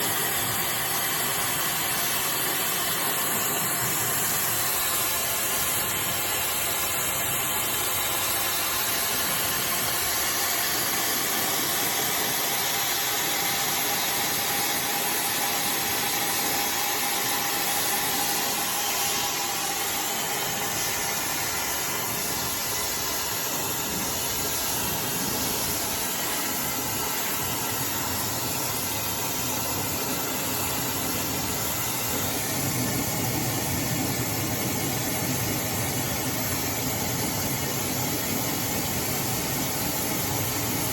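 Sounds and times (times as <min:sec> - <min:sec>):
hair dryer running: 0:00.0 - 0:40.8.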